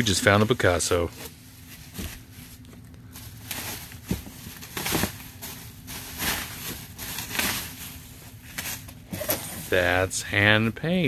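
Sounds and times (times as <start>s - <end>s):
bubble wrap crinkling and rustling: 0.2s - 10.1s.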